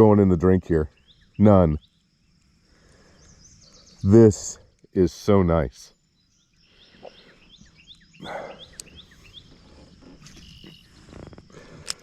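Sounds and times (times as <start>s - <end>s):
bird chirping: 0.0s - 11.8s.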